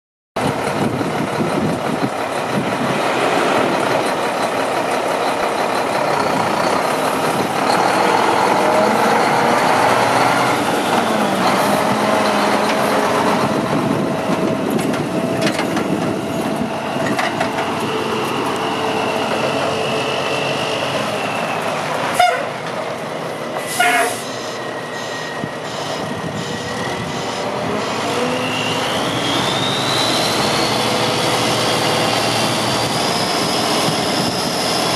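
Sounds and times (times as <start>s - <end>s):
diesel truck engine running: 0.4s - 34.9s.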